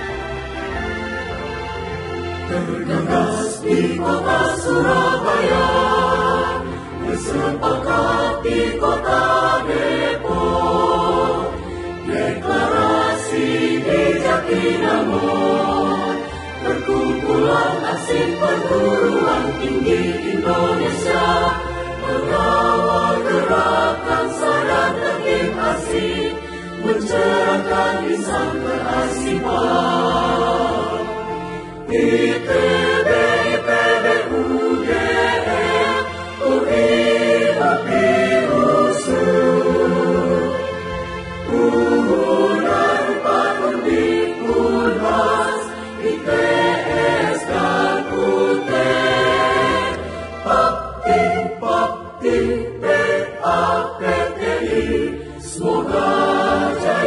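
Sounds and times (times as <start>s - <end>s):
choir singing a march: 0.0s - 57.0s
musical accompaniment: 0.0s - 57.0s.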